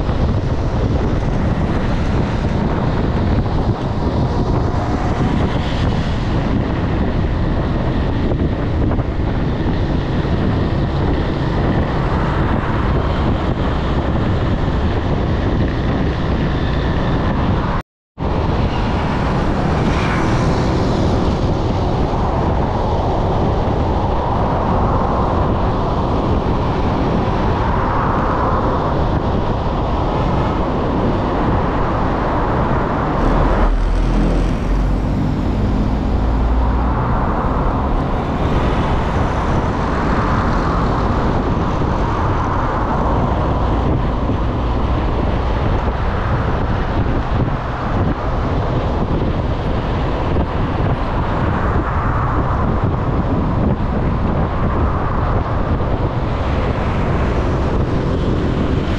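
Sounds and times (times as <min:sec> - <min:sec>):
deep rumble: 0:00.0 - 0:58.9
road and traffic noise: 0:00.0 - 0:58.9
wind on microphone: 0:00.0 - 0:58.9.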